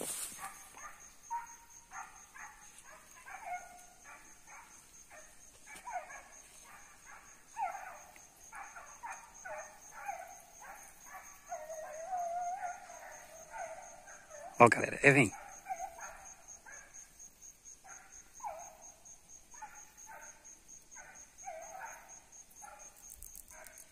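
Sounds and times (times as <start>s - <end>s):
hounds baying and yelping: 0.0s - 23.9s.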